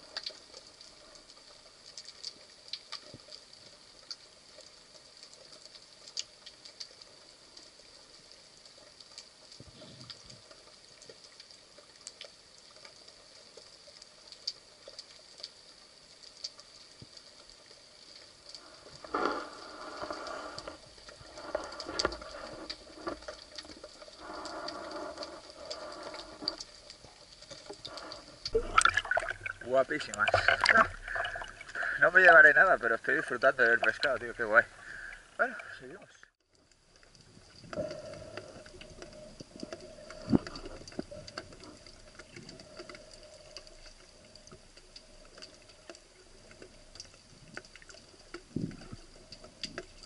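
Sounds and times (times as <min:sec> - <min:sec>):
underwater clicks and crackle: 0:00.0 - 0:50.0.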